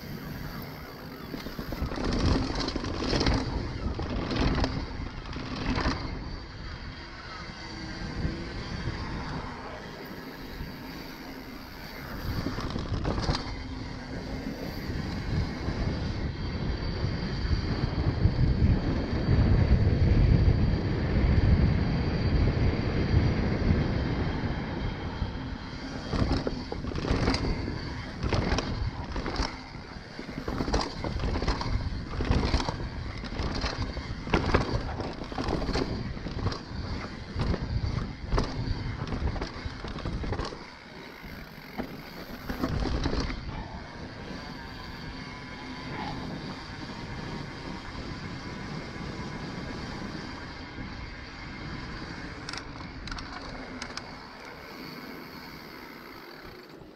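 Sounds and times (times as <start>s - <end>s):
bike tyres rumbling on paving: 0.0s - 56.9s
wind on camera: 0.0s - 56.9s.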